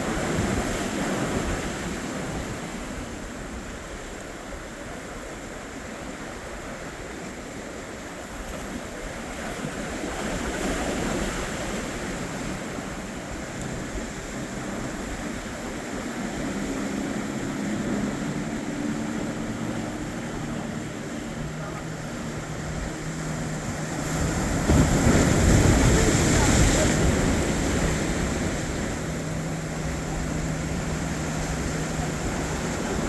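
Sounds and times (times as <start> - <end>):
boat engine drone: 0.0 - 33.0
waves washing: 0.0 - 33.0
wind: 0.0 - 33.0.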